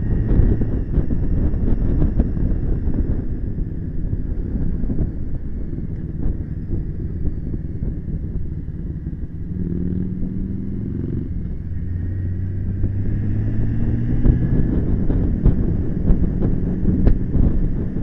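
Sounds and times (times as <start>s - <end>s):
motorcycle engine rumble: 0.0s - 18.0s
wind buffeting on microphone: 0.0s - 18.0s.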